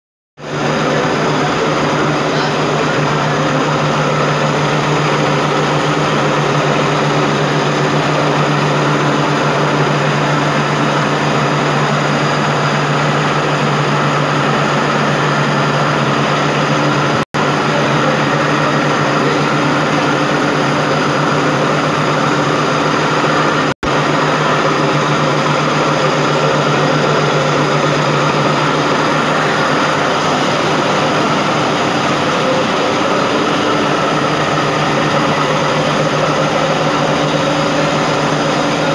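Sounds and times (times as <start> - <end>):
machinery humming: 0.4 - 38.9.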